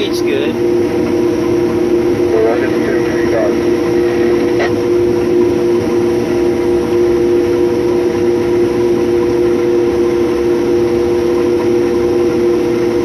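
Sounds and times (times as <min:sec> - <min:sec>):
combine harvester drone: 0:00.0 - 0:13.0
steady hum: 0:00.0 - 0:13.0.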